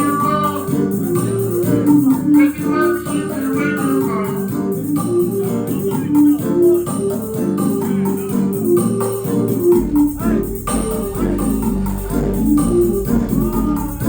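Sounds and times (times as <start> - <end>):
deep bass: 0.0 - 14.0
keyboard melody: 0.0 - 14.0
reggae instrumental over sound system: 0.0 - 14.0
shaker and hi-hat rhythm: 0.0 - 14.0.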